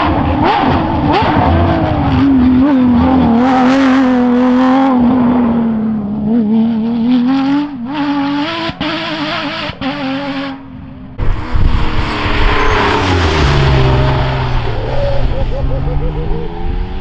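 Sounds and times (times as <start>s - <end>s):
rally car engine at high revs: 0.0s - 17.0s
rough car rumble: 0.0s - 17.0s.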